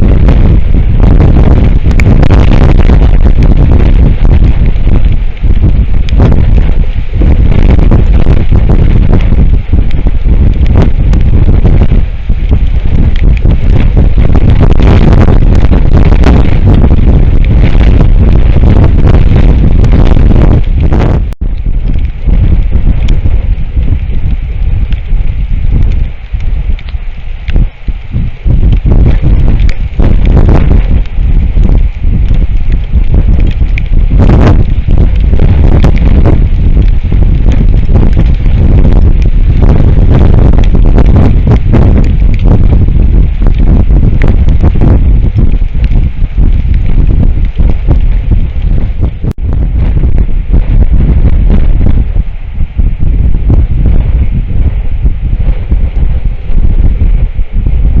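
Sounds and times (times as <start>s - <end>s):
strong wind on microphone: 0.0s - 58.0s.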